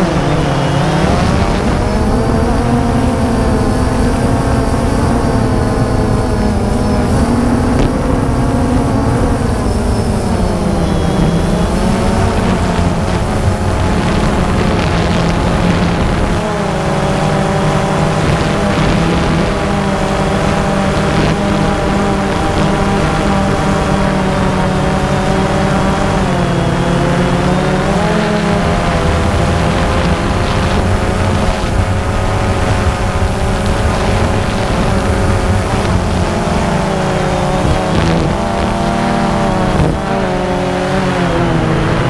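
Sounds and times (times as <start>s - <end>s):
drone motors humming: 0.0s - 42.0s.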